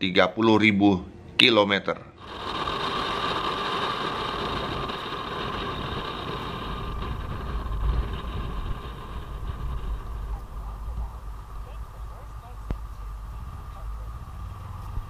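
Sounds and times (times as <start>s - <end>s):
low rumble: 2.2s - 15.0s
wind and road noise: 2.2s - 15.0s
motorcycle engine cruising: 2.8s - 15.0s.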